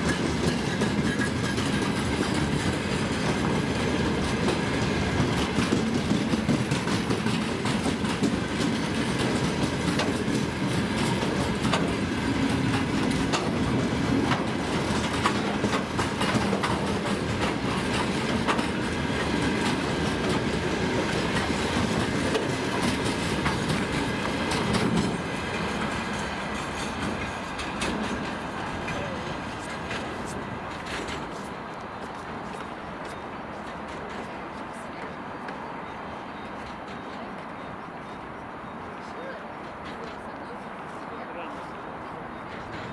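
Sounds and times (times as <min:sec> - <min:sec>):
wheels clattering over rail joints: 0:00.0 - 0:38.8, 0:42.2 - 0:42.9
freight train wagons rumbling: 0:00.0 - 0:42.9.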